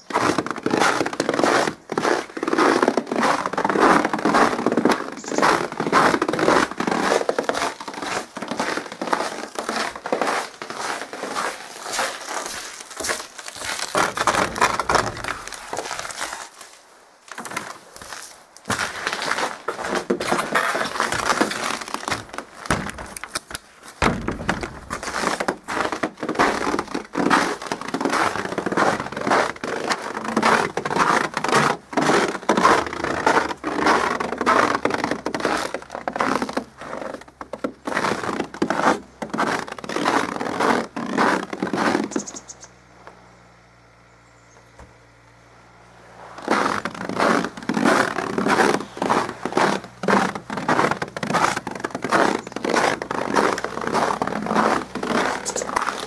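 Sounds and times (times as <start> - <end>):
footsteps crunching in snow: 0.0 - 42.6, 45.9 - 56.0.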